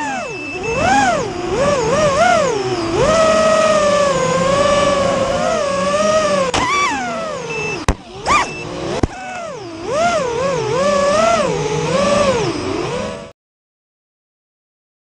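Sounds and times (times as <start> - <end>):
drone motors and propellers whining: 0.0 - 13.3.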